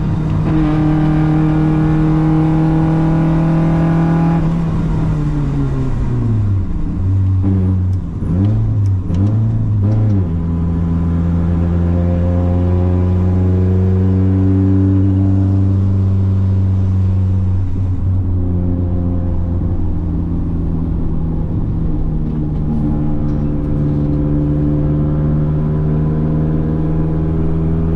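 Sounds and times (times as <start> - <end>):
race car engine revving: 0.0 - 27.9.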